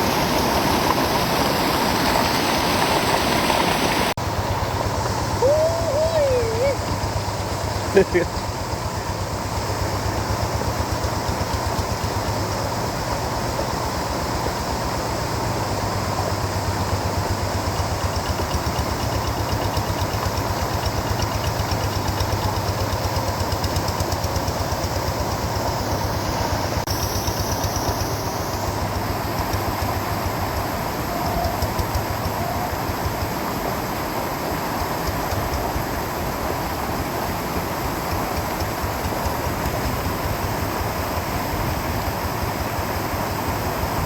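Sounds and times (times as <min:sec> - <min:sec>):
tractor diesel engine chugging: 0:00.0 - 0:44.0.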